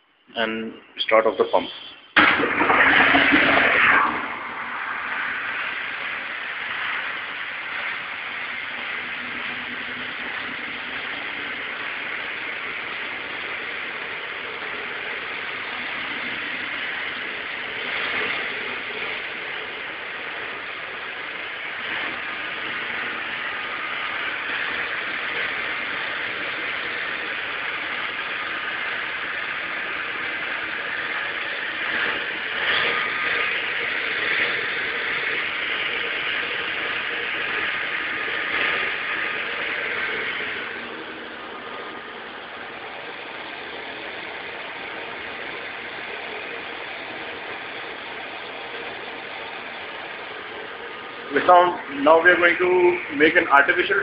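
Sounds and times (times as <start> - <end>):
faint steady whine: 0.0 - 54.0
water pump rushing hiss: 0.4 - 54.0.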